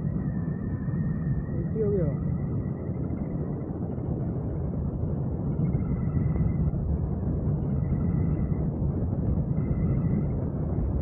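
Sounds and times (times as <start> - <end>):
light airplane engine and propeller: 0.0 - 11.0
wind noise on microphone: 0.0 - 11.0.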